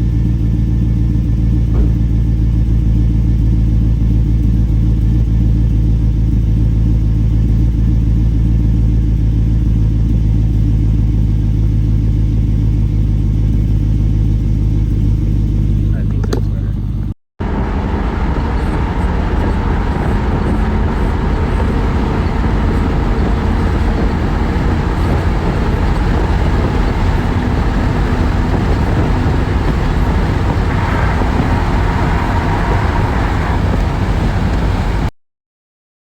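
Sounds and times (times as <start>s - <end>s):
truck engine running: 0.0s - 35.1s.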